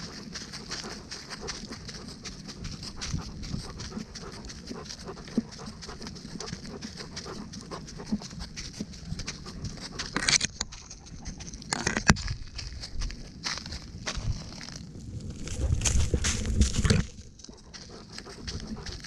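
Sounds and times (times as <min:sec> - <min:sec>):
dog panting: 0:00.0 - 0:11.6, 0:15.4 - 0:19.0
paw footfalls on woodland ground: 0:00.0 - 0:19.0.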